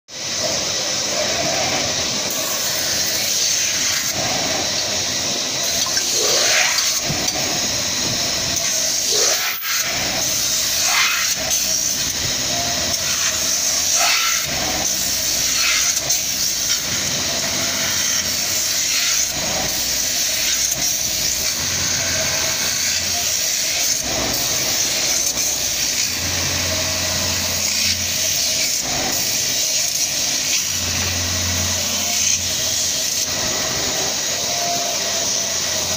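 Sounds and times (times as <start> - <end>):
hissing lathe machine noise: 0.1 - 35.9.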